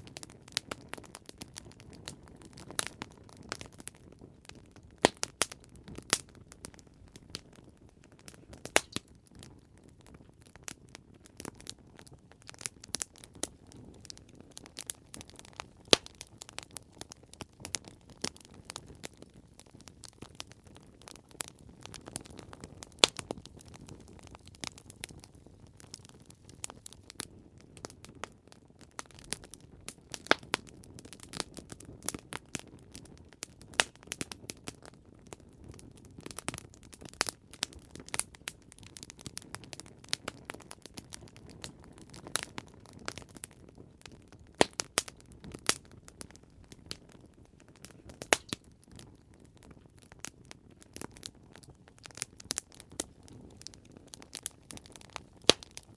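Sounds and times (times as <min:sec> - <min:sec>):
campfire crackling: 0:00.0 - 0:55.9
soft hiss of flames: 0:00.0 - 0:55.9.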